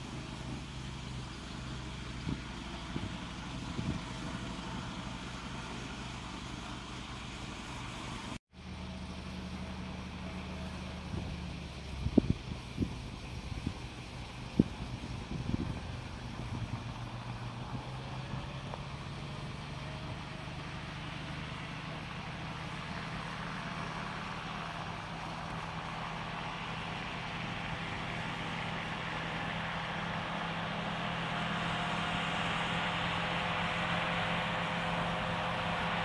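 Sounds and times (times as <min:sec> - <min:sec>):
tractor engine mowing grass: 0:00.0 - 0:36.0.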